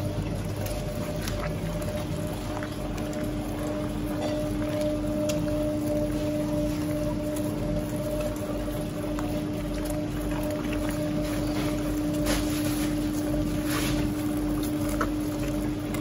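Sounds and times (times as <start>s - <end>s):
machine motor humming: 0.0s - 16.0s.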